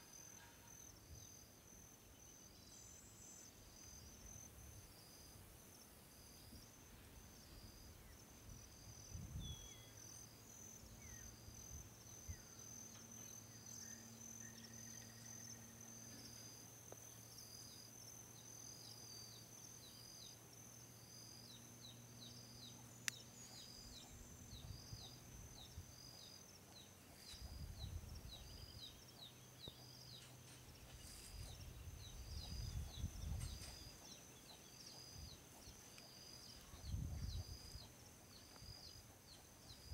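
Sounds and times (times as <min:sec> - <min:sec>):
faint low hum: 0:00.0 - 0:39.9
repeating insect chirp: 0:00.0 - 0:39.9.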